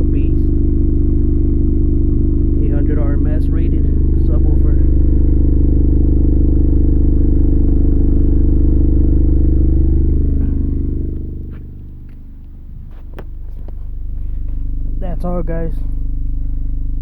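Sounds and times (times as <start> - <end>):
subwoofer low bass note: 0.0 - 17.0.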